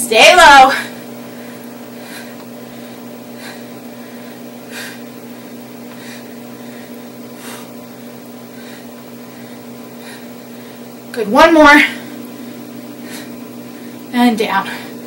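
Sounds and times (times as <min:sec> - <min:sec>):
low hum of room equipment: 0:00.0 - 0:15.0.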